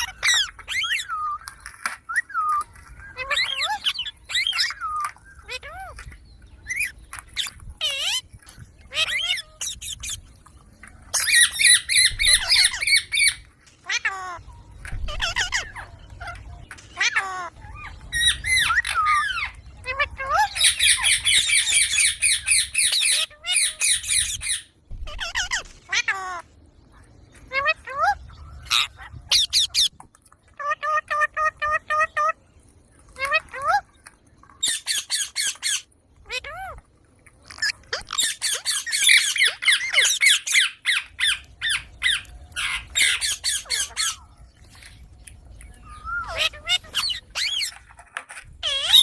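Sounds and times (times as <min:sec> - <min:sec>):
parakeet squawking: 0:00.0 - 0:10.3, 0:11.1 - 0:26.5, 0:27.5 - 0:30.0, 0:30.6 - 0:32.4, 0:33.2 - 0:33.9, 0:34.6 - 0:36.8, 0:37.5 - 0:44.4, 0:45.8 - 0:49.0.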